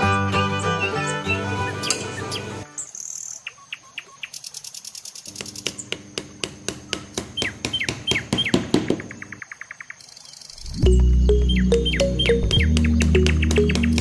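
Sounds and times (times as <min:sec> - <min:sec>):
birds chirping: 0:00.0 - 0:06.0, 0:06.8 - 0:14.0.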